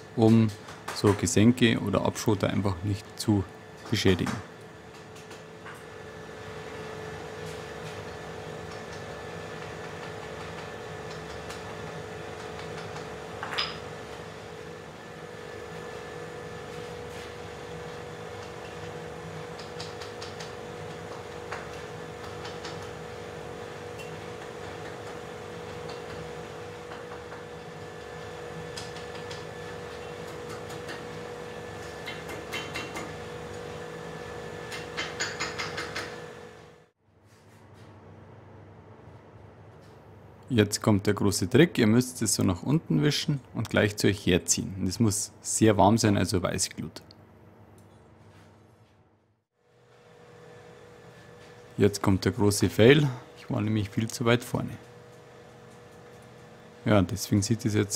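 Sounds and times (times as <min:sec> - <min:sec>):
forge blower humming: 0:00.0 - 0:57.9.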